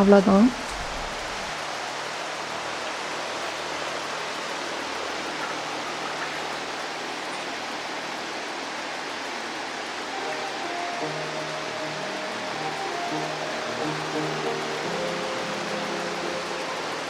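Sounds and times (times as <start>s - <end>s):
background hiss: 0.0s - 17.0s
faint music: 0.0s - 17.0s.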